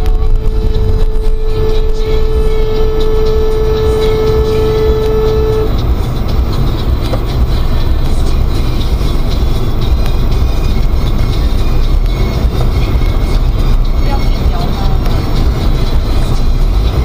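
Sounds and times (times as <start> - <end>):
car engine low rumble: 0.0 - 17.0
held steady tone: 0.0 - 17.0.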